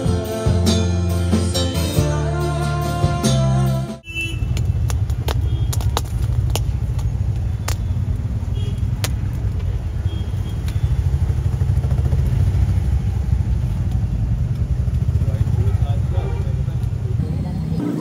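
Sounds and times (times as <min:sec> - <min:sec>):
road vehicle rumble: 0:00.7 - 0:18.0.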